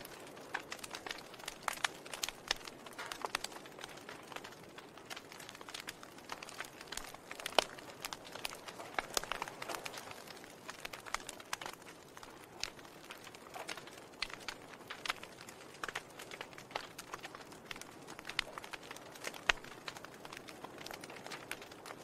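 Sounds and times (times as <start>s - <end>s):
soft hiss of burning: 0.0s - 22.0s
wood fire crackling: 0.0s - 22.0s.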